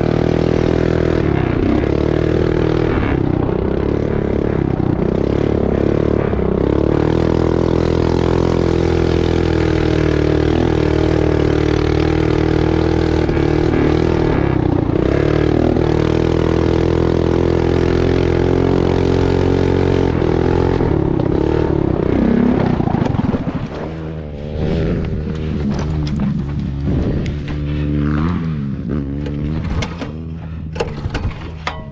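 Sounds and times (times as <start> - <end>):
small motorbike engine revving: 0.0 - 30.6.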